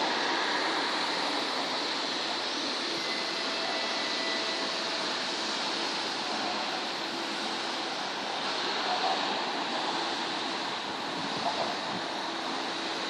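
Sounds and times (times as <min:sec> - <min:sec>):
faint thin whine: 0:00.0 - 0:13.0.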